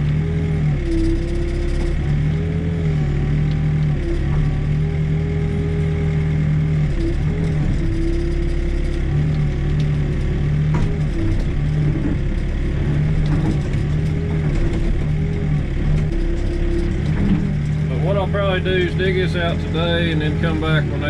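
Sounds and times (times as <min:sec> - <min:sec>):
backhoe diesel engine digging: 0:00.0 - 0:21.0.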